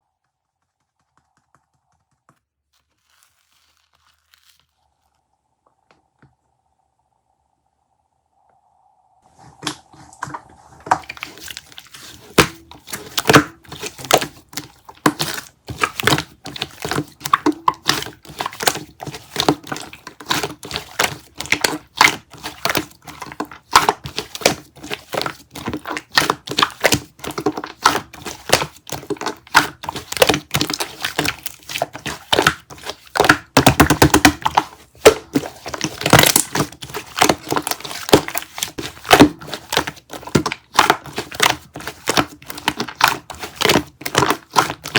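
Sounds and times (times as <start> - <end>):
crinkling: 0.0 - 6.4, 9.2 - 44.9.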